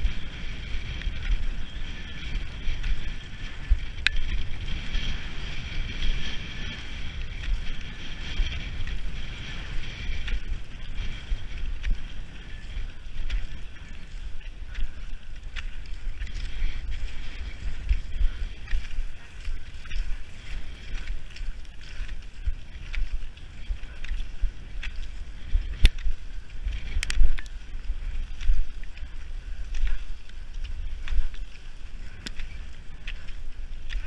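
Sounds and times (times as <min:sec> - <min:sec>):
low wind rumble: 0:00.0 - 0:34.0
ski poles clicking: 0:00.0 - 0:34.0
skis hissing over snow: 0:00.1 - 0:34.0.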